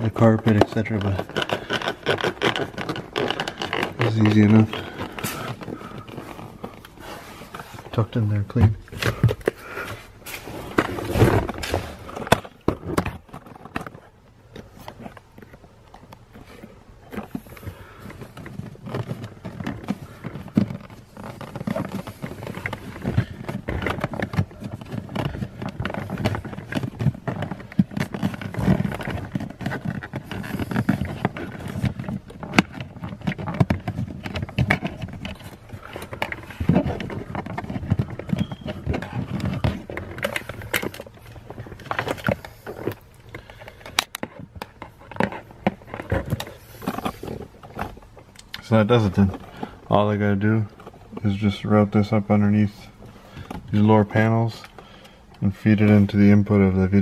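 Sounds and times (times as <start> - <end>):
clicks and knocks of plastic trim: 0.0 - 57.0.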